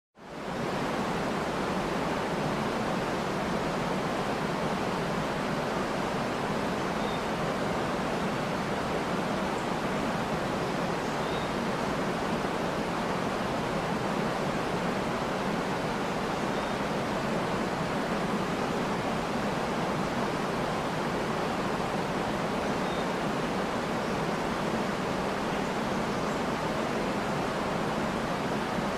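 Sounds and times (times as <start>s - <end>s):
waterfall rushing and churning: 0.2s - 28.9s.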